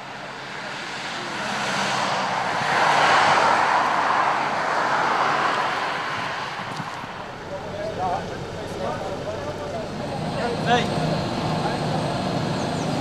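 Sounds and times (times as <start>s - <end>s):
car driving past: 0.4s - 13.0s.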